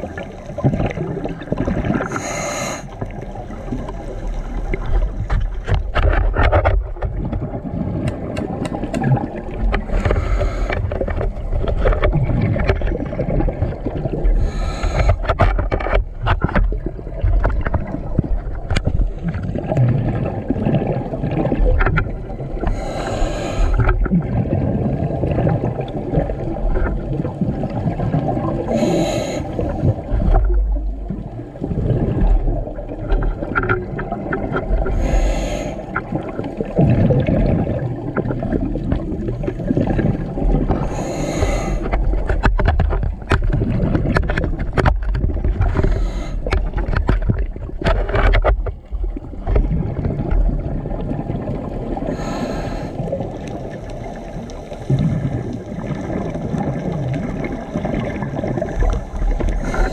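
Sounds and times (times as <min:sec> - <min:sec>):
exhaled bubbles underwater: 0:00.0 - 0:59.9
low water rumble: 0:00.0 - 0:59.9.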